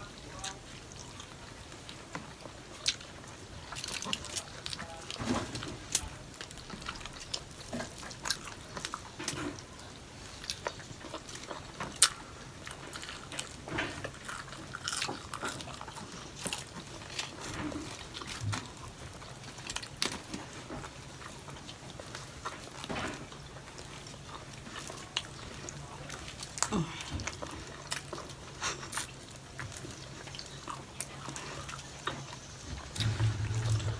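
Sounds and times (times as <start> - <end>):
biting and chewing food: 0.9 - 33.9.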